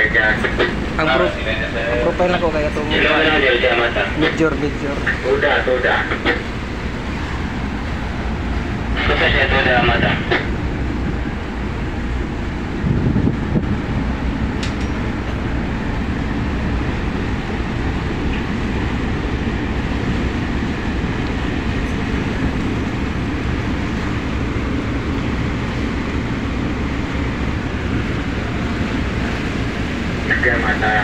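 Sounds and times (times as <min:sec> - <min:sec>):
diesel engines droning: 0:00.0 - 0:31.0
water rushing: 0:00.0 - 0:31.0.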